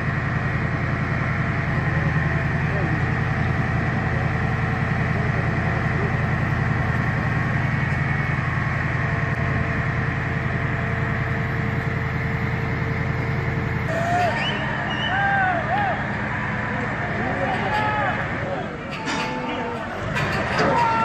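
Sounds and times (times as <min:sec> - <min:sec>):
heavy vehicle engine running: 0:00.0 - 0:21.0.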